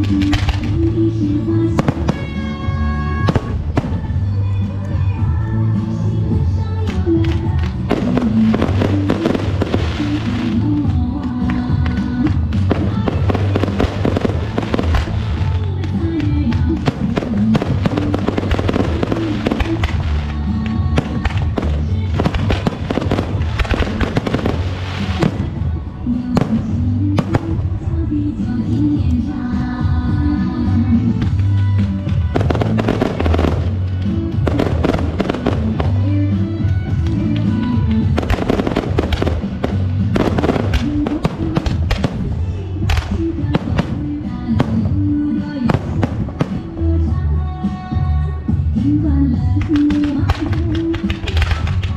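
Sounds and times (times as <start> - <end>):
fireworks bangs and crackles: 0.0 - 47.8, 49.5 - 51.9
background music: 0.0 - 51.9.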